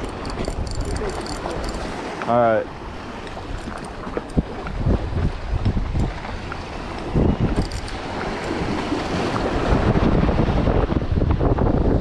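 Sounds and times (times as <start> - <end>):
waves washing against rocks: 0.0 - 12.0
wind buffeting microphone: 0.0 - 12.0.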